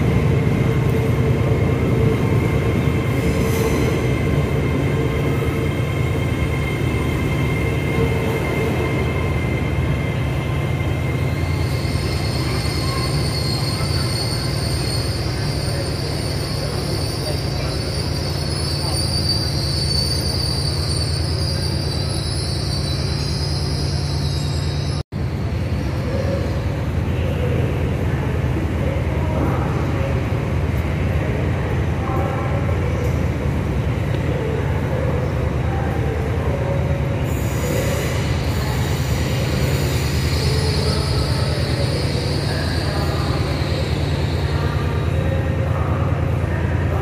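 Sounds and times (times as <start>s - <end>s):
train wheels squealing on rails: 0.0s - 25.0s, 34.0s - 46.7s
train rumbling: 0.0s - 47.0s.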